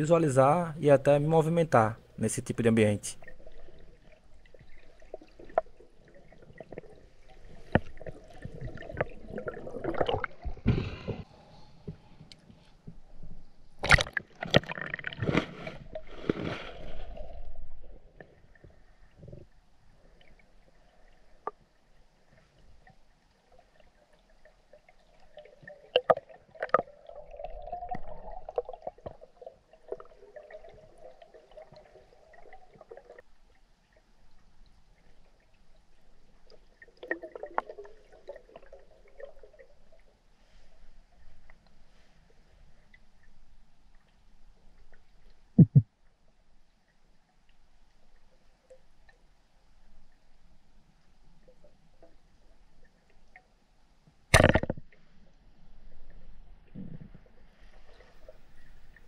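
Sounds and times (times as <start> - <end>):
water sloshing and gurgling: 3.2 - 46.0, 54.3 - 59.0.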